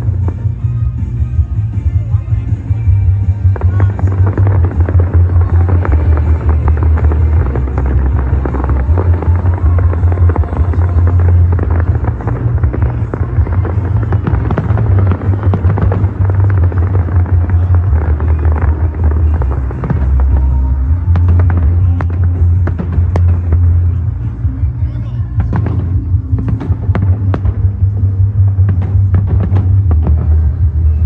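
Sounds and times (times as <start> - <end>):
fireworks crackling: 0.0 - 31.0
low rumble: 0.0 - 31.0
music playing: 0.0 - 31.0.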